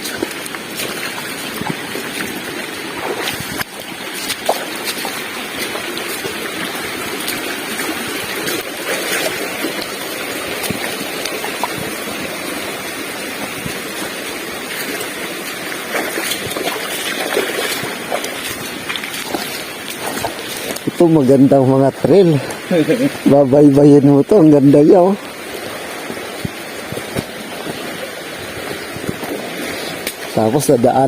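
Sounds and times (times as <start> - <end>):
water flowing over rocks: 0.0 - 31.0.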